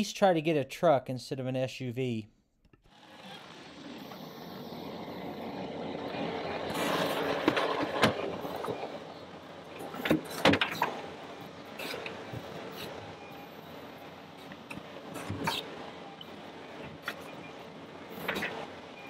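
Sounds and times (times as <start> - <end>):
diesel engine running: 3.0 - 19.0.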